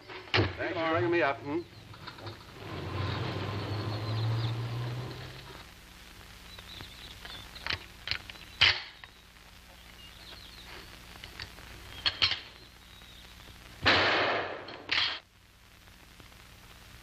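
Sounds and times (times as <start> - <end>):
birds chirping faintly: 0.0 - 13.8.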